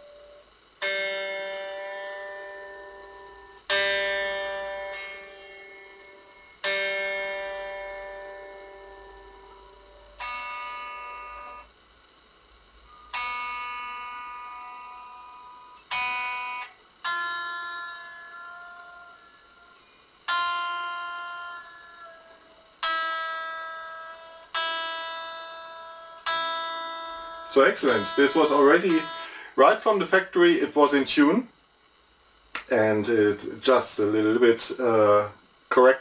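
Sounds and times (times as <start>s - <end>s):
electric guitar strings plucked: 0.0s - 11.7s, 12.8s - 31.0s.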